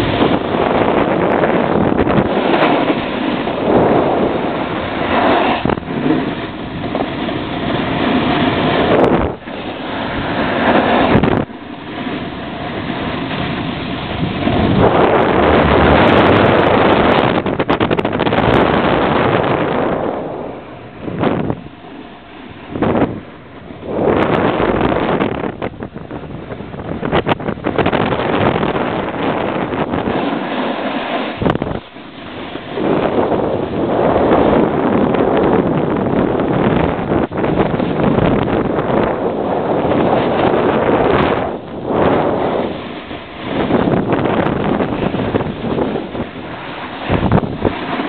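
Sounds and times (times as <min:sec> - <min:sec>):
snowboard scraping over snow: 0:00.0 - 0:48.0
wind on microphone: 0:00.0 - 0:48.0.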